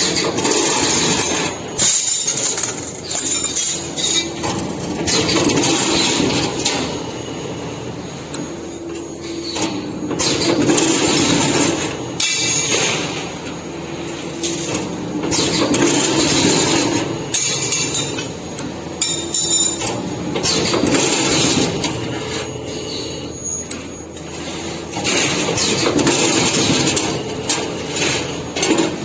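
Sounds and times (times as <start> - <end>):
machine clicks and knocks: 0.0 - 7.0, 8.3 - 13.6, 14.4 - 22.2, 24.9 - 29.0
machine motor whine and hiss: 0.0 - 29.0.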